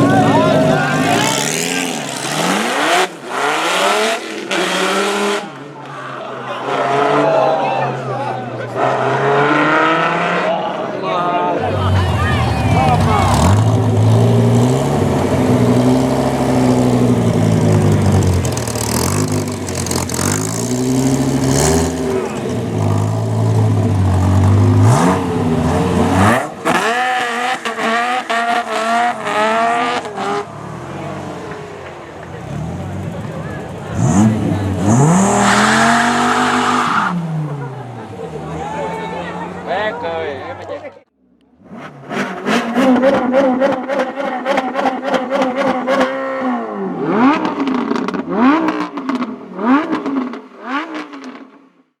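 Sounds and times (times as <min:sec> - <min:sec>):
sports car engine revving: 0:00.0 - 0:05.6, 0:11.6 - 0:39.7, 0:41.5 - 0:51.4.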